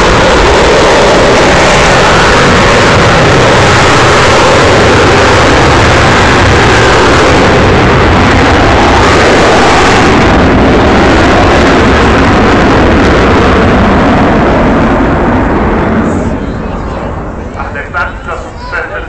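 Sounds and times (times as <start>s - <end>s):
loud jet engine roar: 0.0s - 19.0s.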